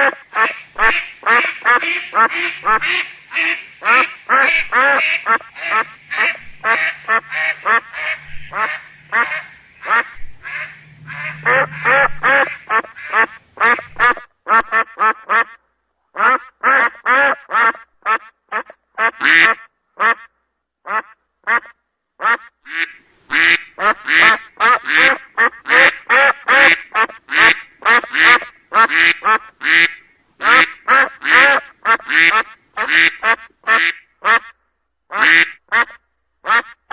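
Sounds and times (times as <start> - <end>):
ducks quacking: 0.0 - 15.6, 16.2 - 20.3, 20.9 - 36.9.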